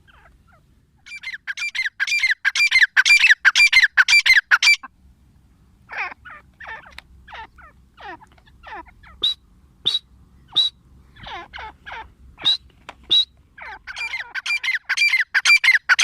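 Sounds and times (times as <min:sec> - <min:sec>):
francolin calling: 0:00.0 - 0:04.9, 0:05.9 - 0:16.0.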